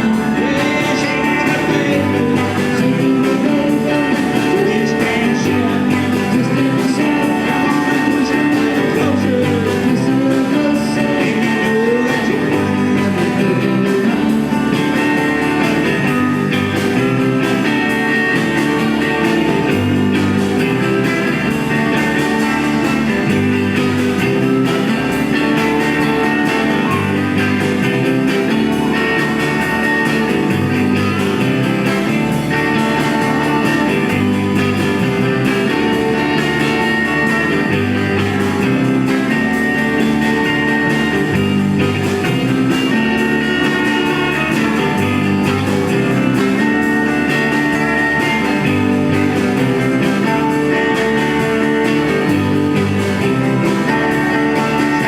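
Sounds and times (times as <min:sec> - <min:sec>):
bass line: 0:00.0 - 0:55.0
blues-rock band playing: 0:00.0 - 0:55.0
lead guitar: 0:00.0 - 0:55.0.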